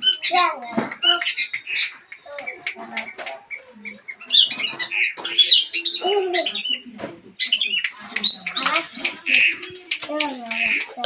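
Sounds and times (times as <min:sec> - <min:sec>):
bird chattering chirps and squawks: 0:00.0 - 0:11.0.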